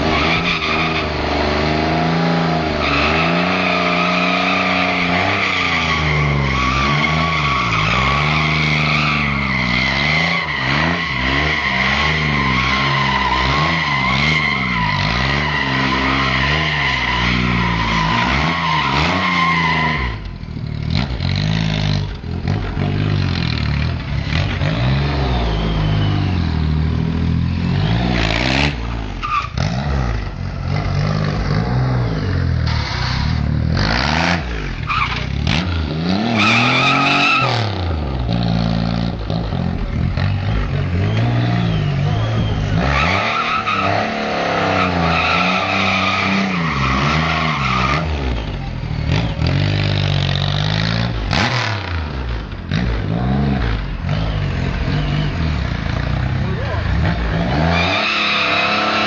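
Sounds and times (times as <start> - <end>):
tyre squeal: 0.0 - 21.0, 23.6 - 28.5, 29.1 - 34.0, 34.6 - 38.4, 39.0 - 59.0
motorcycle engine revving: 0.0 - 59.0.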